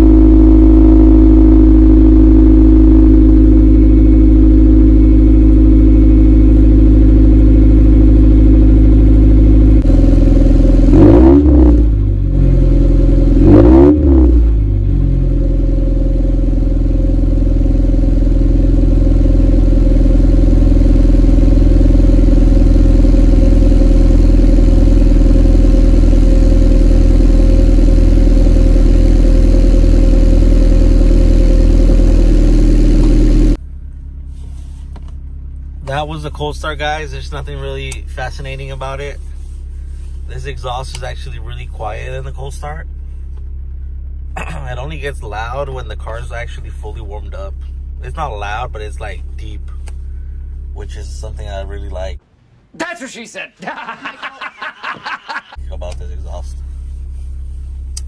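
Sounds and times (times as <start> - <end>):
car engine idling and revving: 0.0 - 52.2, 55.2 - 58.0.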